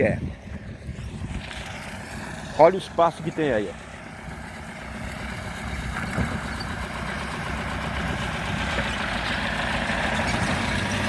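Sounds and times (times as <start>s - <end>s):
large vehicle engine running: 0.0s - 11.0s.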